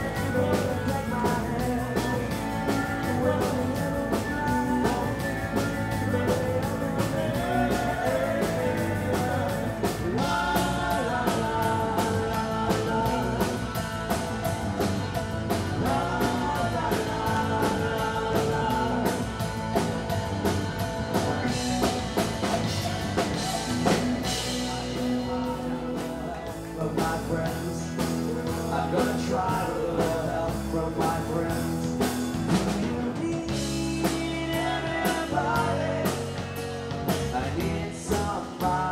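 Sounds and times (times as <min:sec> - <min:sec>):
man singing: 0:00.0 - 0:20.0, 0:21.1 - 0:38.9
drums: 0:00.0 - 0:38.9
electric guitar: 0:00.0 - 0:38.9
live rock band playing: 0:00.0 - 0:38.9.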